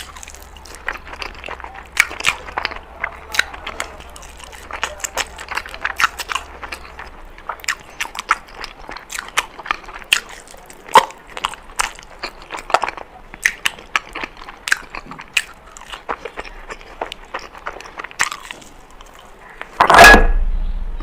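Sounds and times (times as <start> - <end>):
crunchy chewing: 0.0 - 20.2.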